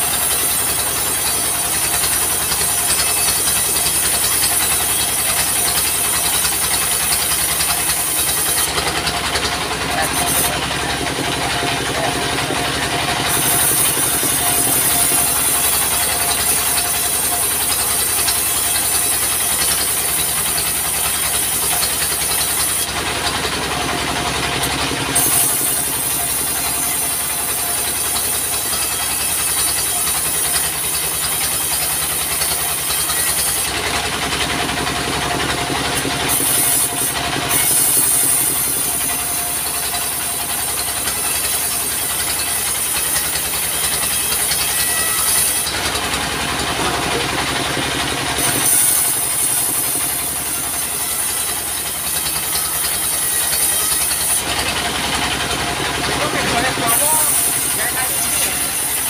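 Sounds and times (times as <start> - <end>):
bandsaw cutting log: 0.0 - 59.0
diesel engine running: 0.0 - 59.0.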